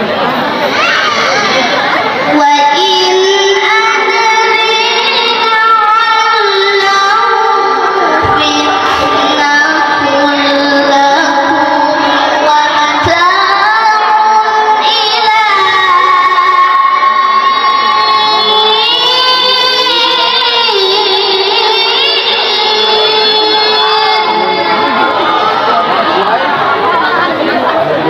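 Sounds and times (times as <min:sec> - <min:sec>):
boy reciting melodically: 0:00.8 - 0:27.6.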